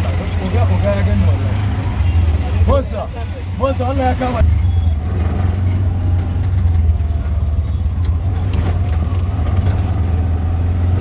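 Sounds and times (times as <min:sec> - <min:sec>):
car traffic rumble: 0:00.0 - 0:11.0.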